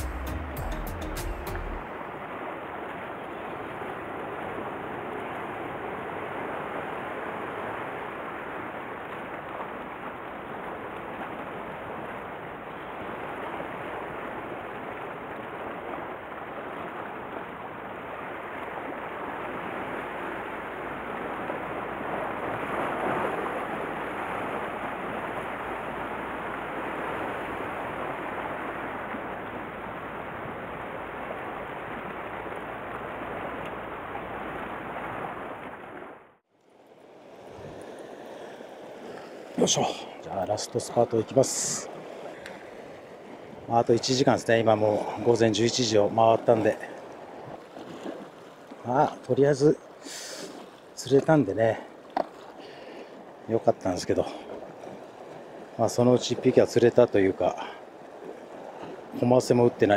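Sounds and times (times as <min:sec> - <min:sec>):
surf washing against rocks: 0:00.0 - 0:59.9.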